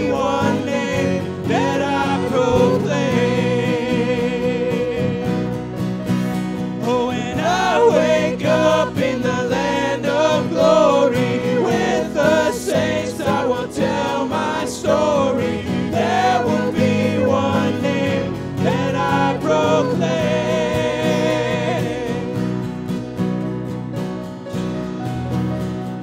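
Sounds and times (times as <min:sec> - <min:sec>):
live band with vocals: 0:00.0 - 0:23.6.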